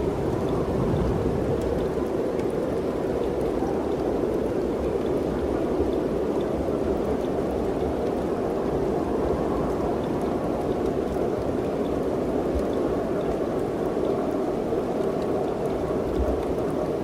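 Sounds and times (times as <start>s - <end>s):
mountain wind blowing: 0.0s - 17.0s.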